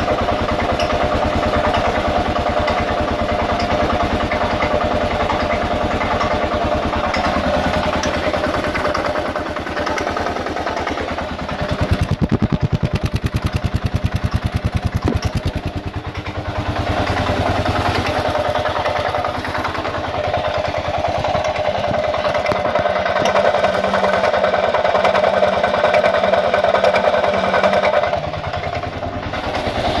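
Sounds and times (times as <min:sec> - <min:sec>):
motorcycle engine clacking: 0:00.0 - 0:30.0.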